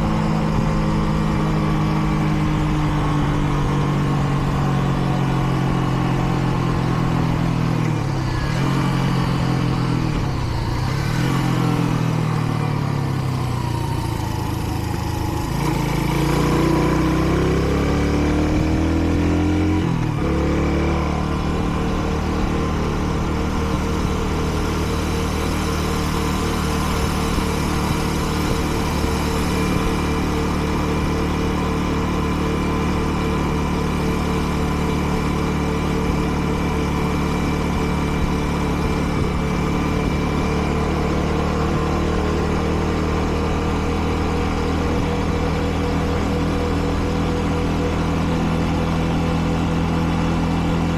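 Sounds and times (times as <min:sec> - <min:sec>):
motorcycle engine revving and idling: 0:00.0 - 0:50.9.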